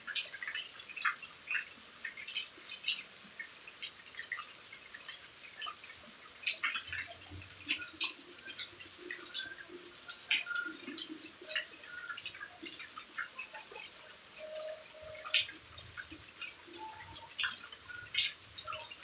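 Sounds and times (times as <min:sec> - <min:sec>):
rain dripping: 0:00.0 - 0:19.0.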